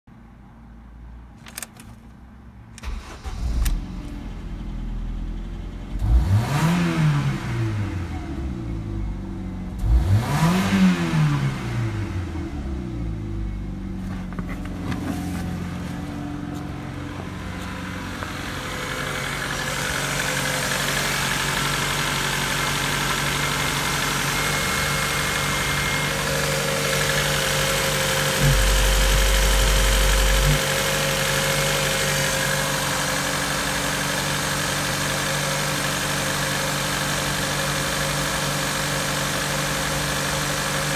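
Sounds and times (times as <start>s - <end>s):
car engine starting and revving: 2.8s - 40.9s.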